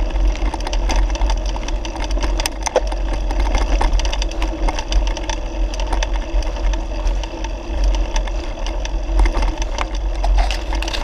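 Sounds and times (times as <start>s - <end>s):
bicycle rumbling on rough track: 0.0s - 11.0s
bike rattling and clicking: 0.0s - 11.0s.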